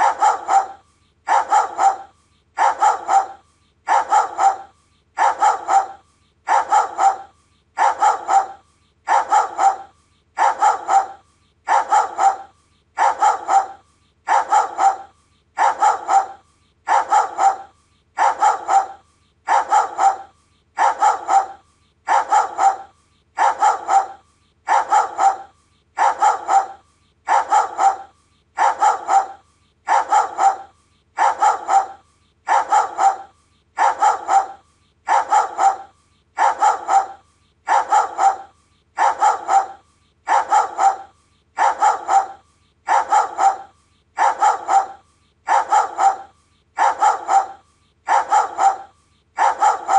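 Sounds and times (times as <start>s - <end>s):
dog barking: 0.0s - 49.9s.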